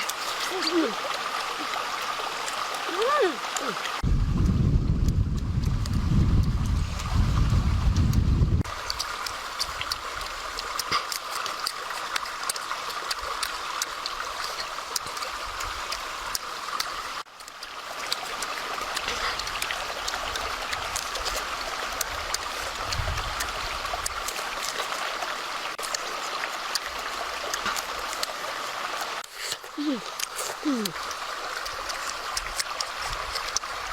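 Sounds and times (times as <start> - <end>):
small splashy ticks: 0.0 - 7.1, 8.0 - 33.9
stream flowing: 0.0 - 33.9.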